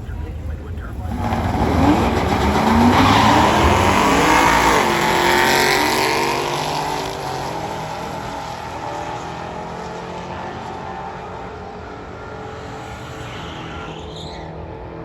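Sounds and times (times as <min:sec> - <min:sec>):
cars accelerating at full throttle: 0:00.7 - 0:15.0.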